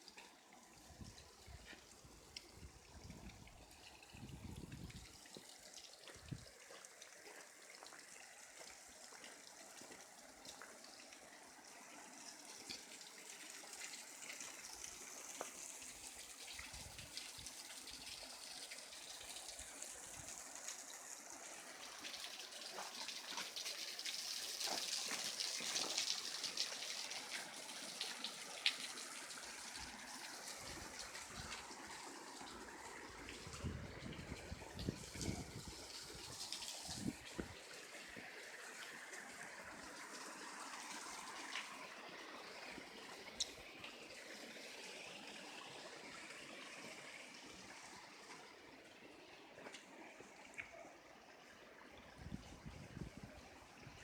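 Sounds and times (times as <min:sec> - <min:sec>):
water flowing and trickling: 0:00.0 - 0:54.0.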